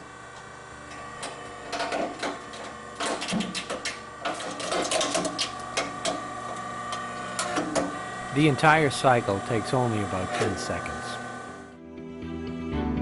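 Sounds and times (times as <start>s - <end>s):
crusher motor hum: 0.0s - 11.8s.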